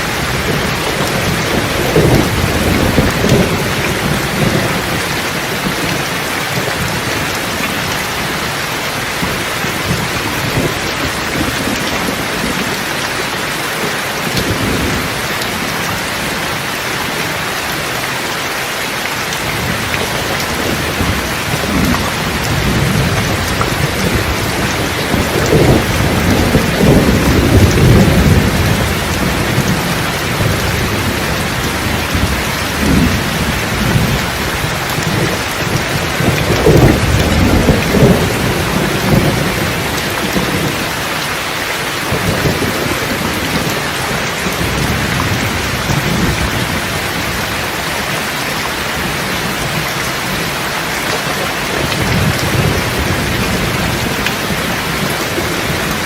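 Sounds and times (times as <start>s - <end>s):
thunder rumbling: 0.0s - 16.8s, 19.2s - 56.0s
heavy rain falling: 0.0s - 56.0s.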